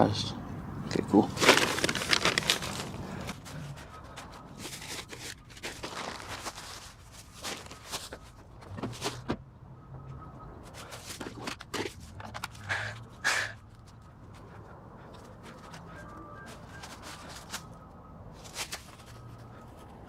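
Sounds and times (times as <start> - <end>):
rustling handling noises: 0.9 - 9.4, 10.5 - 20.0.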